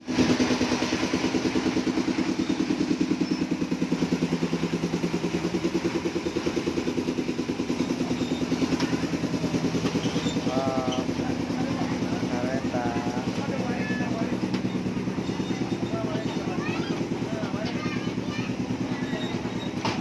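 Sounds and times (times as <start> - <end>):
small train engine pulsing: 0.0 - 20.0.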